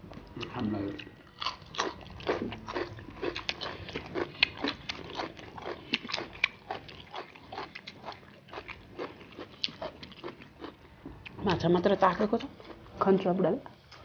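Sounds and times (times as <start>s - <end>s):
people chewing food: 0.0s - 14.0s.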